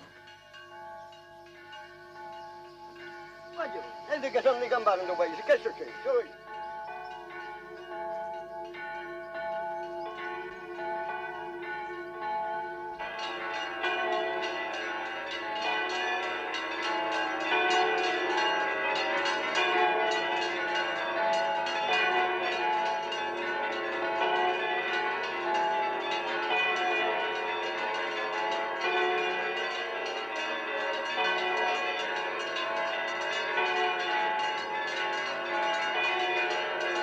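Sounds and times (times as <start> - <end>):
church bells pealing: 0.0 - 37.0.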